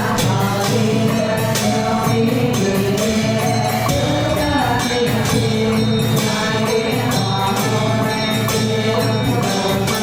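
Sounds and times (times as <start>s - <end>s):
jingling percussion: 0.0s - 10.0s.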